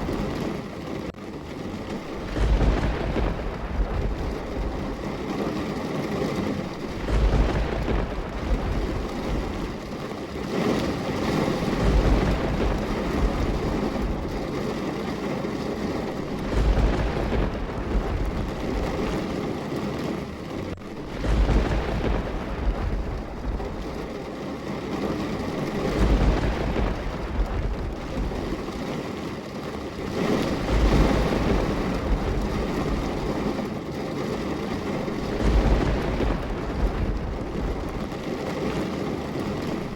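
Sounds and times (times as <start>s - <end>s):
steady rain: 0.0s - 39.9s
low rumble: 1.3s - 39.9s.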